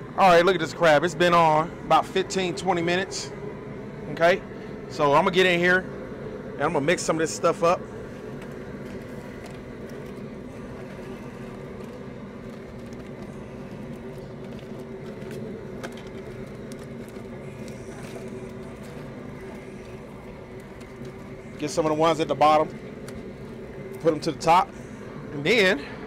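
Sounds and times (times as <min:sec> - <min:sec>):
gas burner hum and rush: 0:00.0 - 0:26.0.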